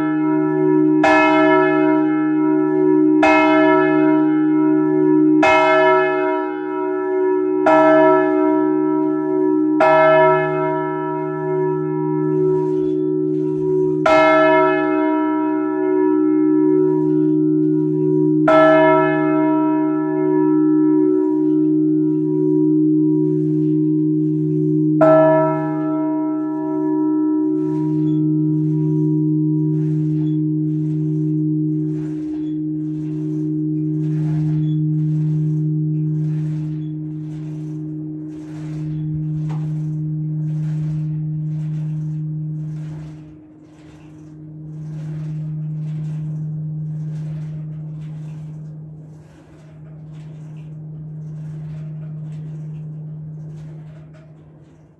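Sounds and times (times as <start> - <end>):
church bell clapper strikes: 0.0 - 54.9
deep hum of bells: 0.0 - 54.9.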